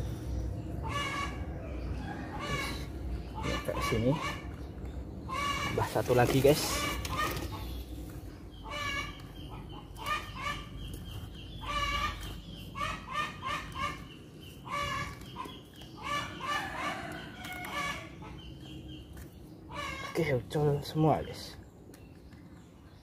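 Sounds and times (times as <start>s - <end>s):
chickens clucking: 0.0s - 20.7s.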